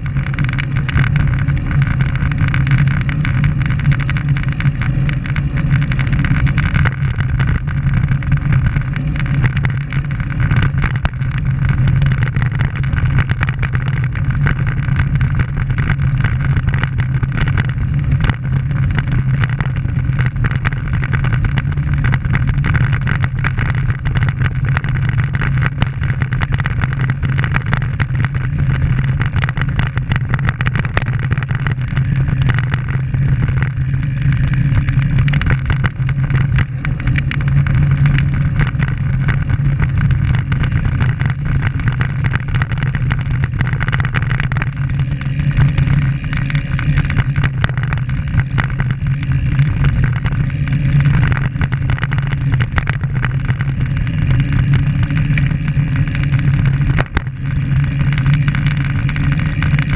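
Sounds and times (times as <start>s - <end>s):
road rumble: 0.0s - 59.9s
wind drone: 0.0s - 59.9s.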